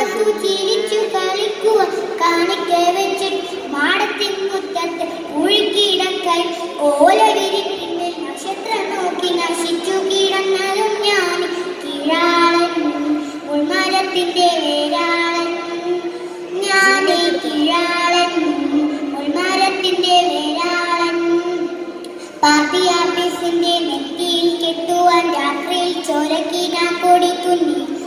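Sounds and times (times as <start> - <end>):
girl singing a poem: 0.0 - 28.0.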